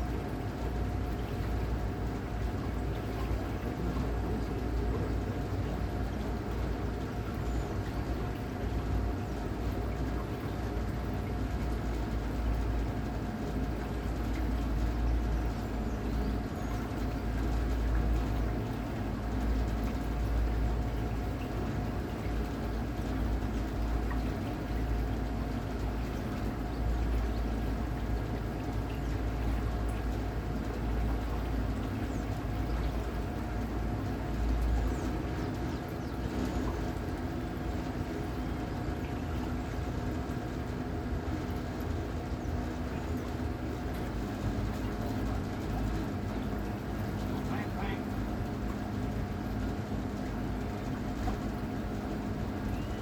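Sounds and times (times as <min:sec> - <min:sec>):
low uneven rumble: 0:00.0 - 0:53.0.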